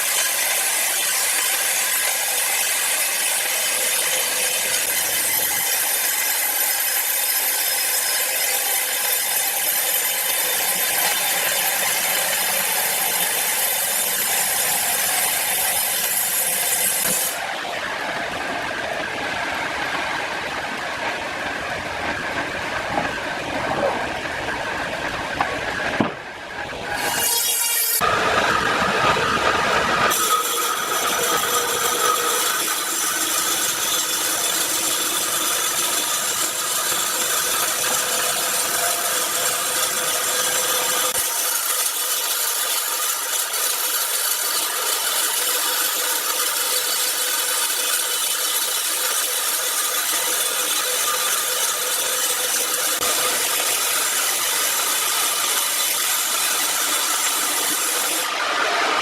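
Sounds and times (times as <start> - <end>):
power saw cutting through log: 0.0 - 20.9, 25.2 - 59.0.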